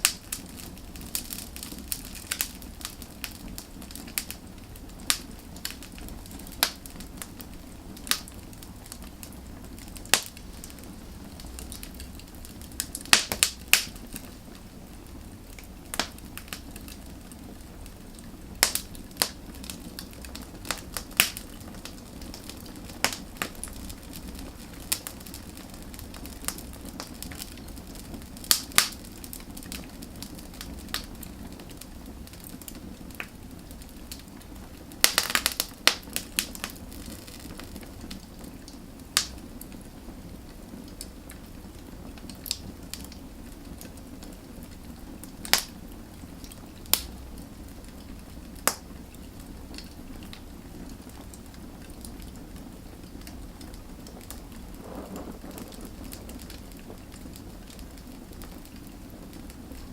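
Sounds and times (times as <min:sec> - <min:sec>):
low rush of flame: 0:00.0 - 0:59.9
wood fire crackling and popping: 0:00.0 - 0:59.9.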